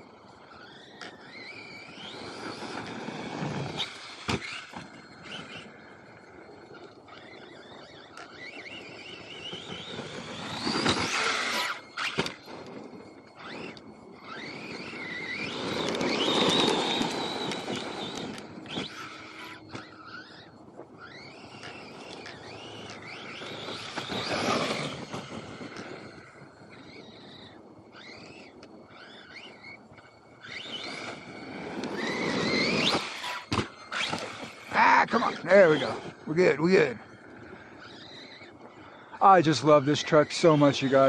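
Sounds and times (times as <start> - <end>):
electric motor whining: 0.0 - 41.0
tyres scrabbling on loose dirt: 0.0 - 41.0.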